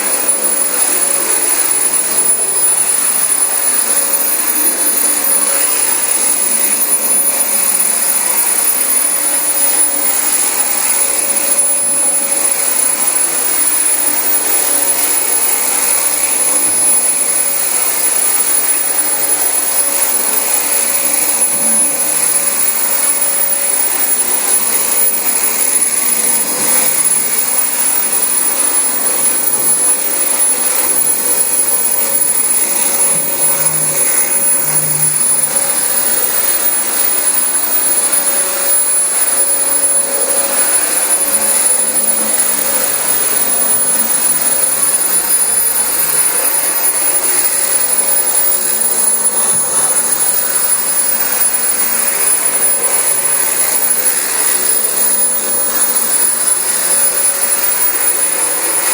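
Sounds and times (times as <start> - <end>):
vacuum cleaner running over carpet: 0.0 - 58.9.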